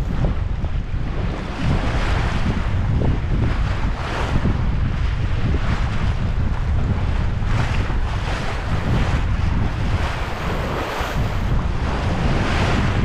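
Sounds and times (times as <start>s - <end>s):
water splashing along hull: 0.0s - 13.0s
wind buffeting microphone: 0.0s - 13.0s.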